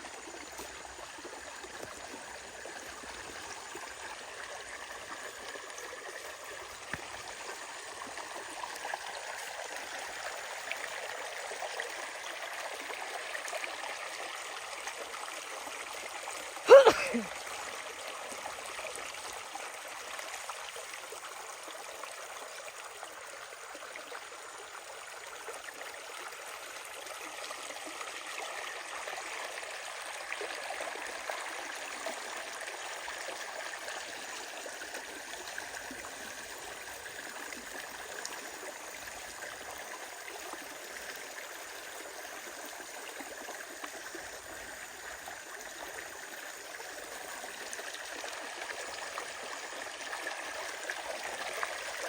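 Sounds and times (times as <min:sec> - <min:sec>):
running water: 0:00.0 - 0:52.0.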